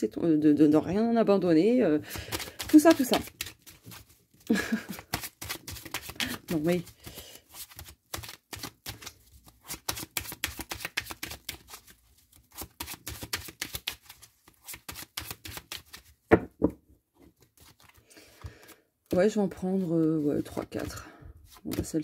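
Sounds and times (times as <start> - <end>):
cards being shuffled: 2.1 - 16.2, 17.3 - 22.0.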